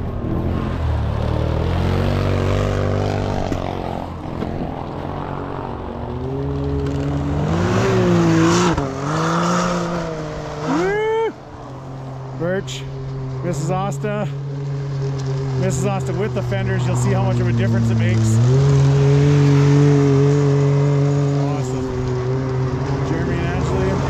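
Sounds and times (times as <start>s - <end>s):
tracked vehicle engines revving: 0.0s - 24.0s.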